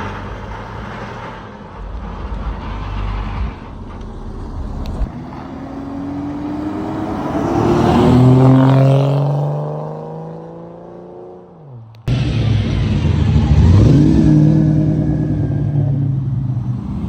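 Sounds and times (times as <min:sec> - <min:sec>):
car accelerating past: 0:00.0 - 0:11.4, 0:12.1 - 0:17.0.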